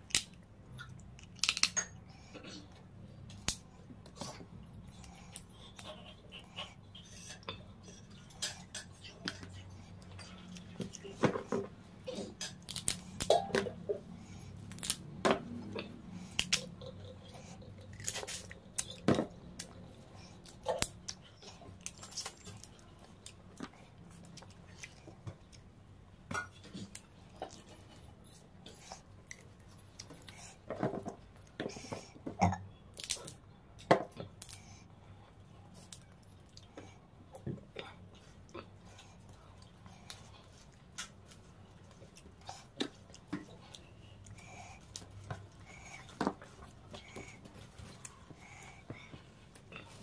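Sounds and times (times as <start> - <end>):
chewing and crunching: 0.0 - 33.5, 34.1 - 50.0.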